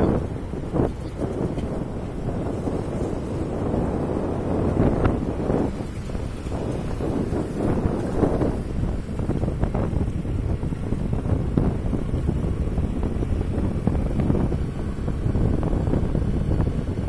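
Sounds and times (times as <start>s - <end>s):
vehicle and road noise: 0.0s - 17.0s
wind buffeting microphone: 0.0s - 17.0s.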